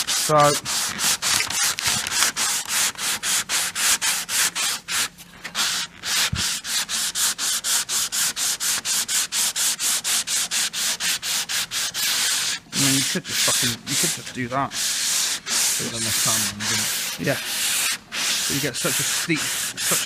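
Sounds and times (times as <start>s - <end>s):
sandpaper rubbing on a panel: 0.0s - 20.0s.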